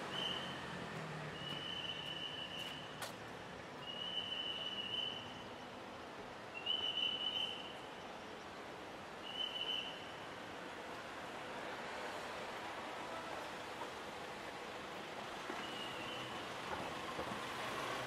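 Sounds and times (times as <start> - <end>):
street background noise: 0.0 - 18.0.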